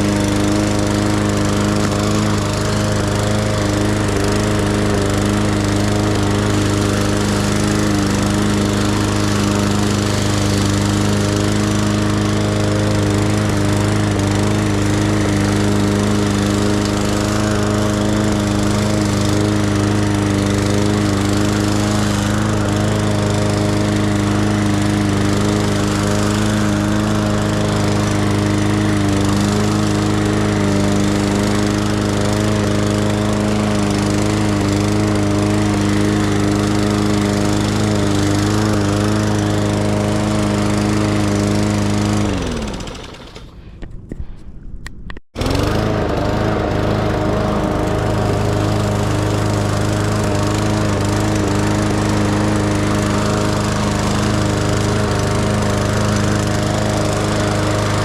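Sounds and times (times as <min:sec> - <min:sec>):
lawn mower engine running: 0:00.0 - 0:44.0, 0:45.4 - 0:58.0.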